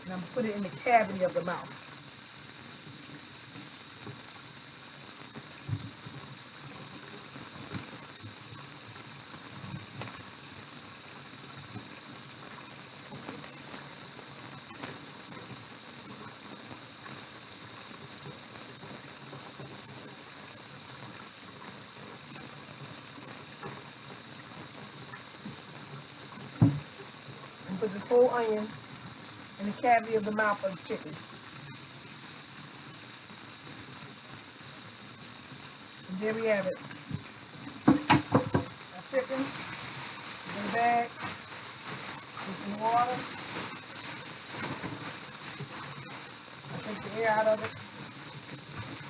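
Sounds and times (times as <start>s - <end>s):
steady high hiss: 0.0s - 49.0s.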